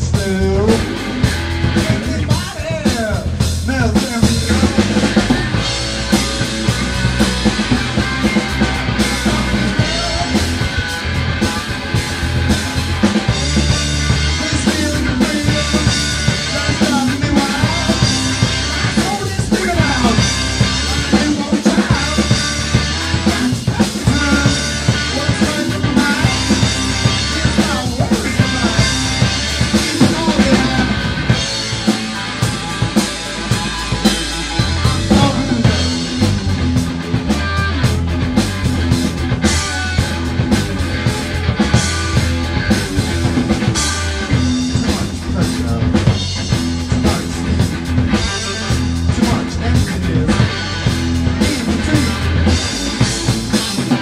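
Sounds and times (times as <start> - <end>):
drum kit beats: 0.0 - 54.0
electric bass: 0.0 - 54.0
electric guitar: 0.0 - 54.0.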